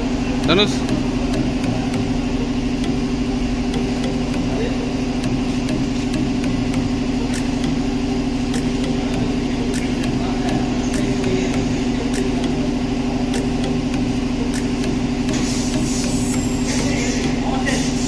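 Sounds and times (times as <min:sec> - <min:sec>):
faint ticking: 0:00.0 - 0:18.0
mechanical hum: 0:00.0 - 0:18.0.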